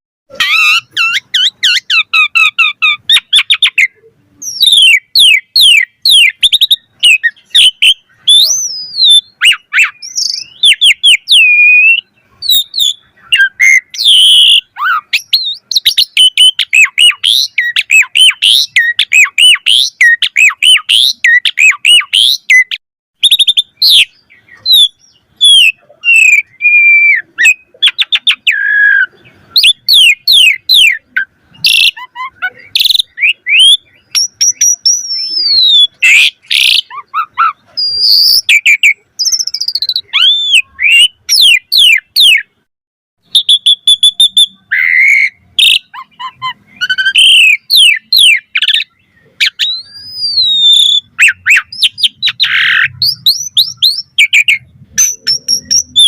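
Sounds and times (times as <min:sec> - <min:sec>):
starling singing: 0:00.3 - 0:56.0.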